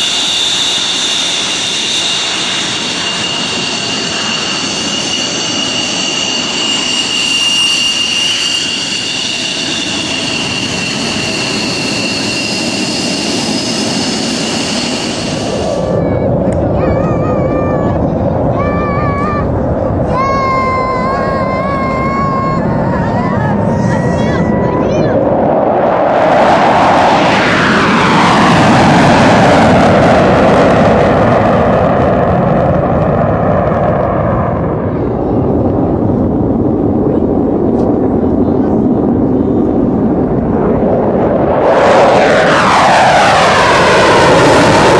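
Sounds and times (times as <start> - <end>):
high steady whine: 0.0 - 44.9
jet engine roar: 0.0 - 44.9.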